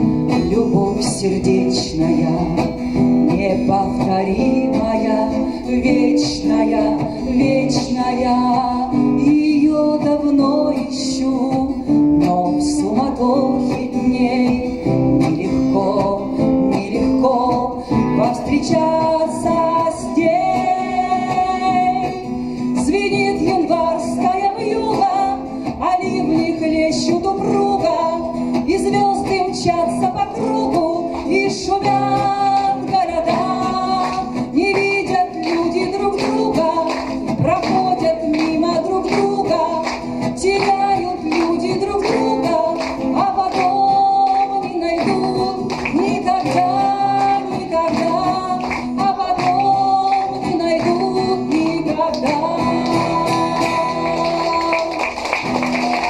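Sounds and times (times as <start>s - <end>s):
pop song with singing: 0.0s - 56.0s.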